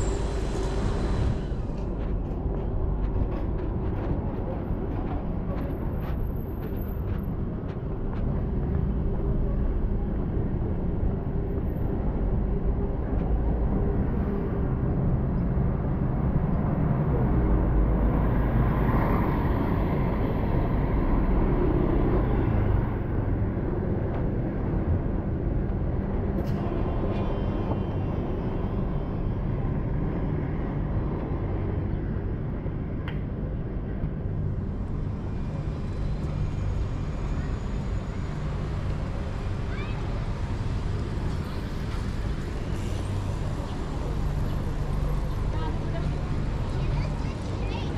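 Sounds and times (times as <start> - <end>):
buses and cars passing: 0.0 - 47.9.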